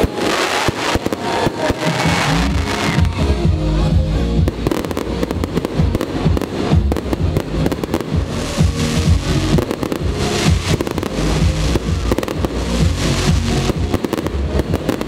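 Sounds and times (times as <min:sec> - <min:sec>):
firework shells bursting and crackling: 0:00.0 - 0:03.2, 0:04.5 - 0:15.0
music playing: 0:00.0 - 0:15.0.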